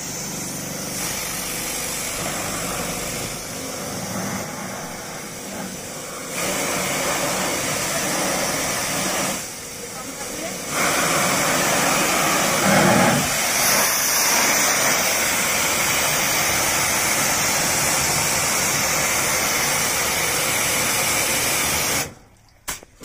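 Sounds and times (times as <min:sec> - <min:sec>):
pressure washer spray hissing: 0:00.0 - 0:22.2
pump running: 0:00.0 - 0:22.8.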